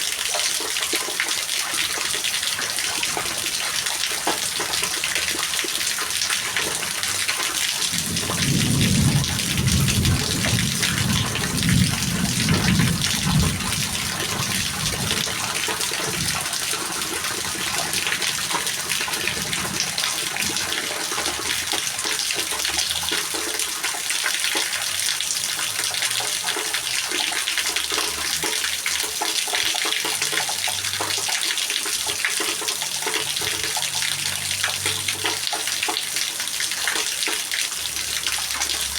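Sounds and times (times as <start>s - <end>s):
rain falling steadily: 0.0s - 38.9s.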